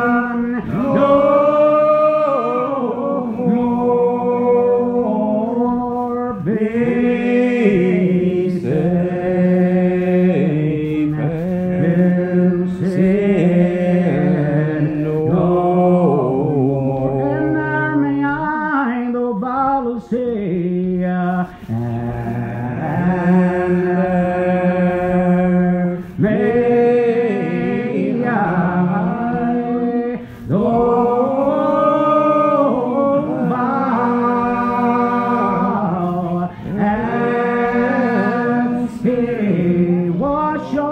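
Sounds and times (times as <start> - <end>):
unaccompanied hymn singing: 0.0 - 40.9.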